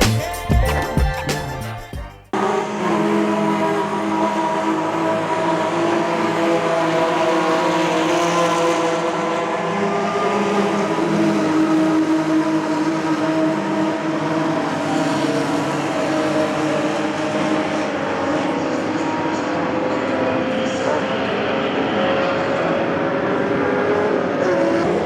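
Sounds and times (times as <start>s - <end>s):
racing car engines running: 2.4s - 25.0s.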